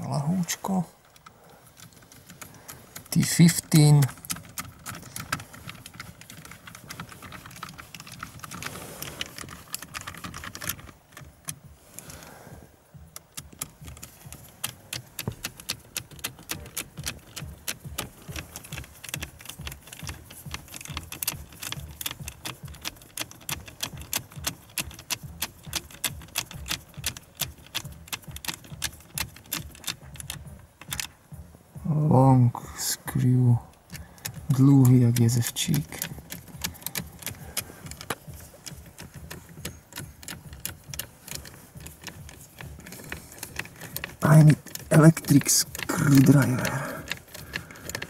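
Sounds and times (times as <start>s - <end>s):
ratcheting driver clicking: 1.0s - 12.2s, 13.1s - 31.2s, 33.7s - 48.0s.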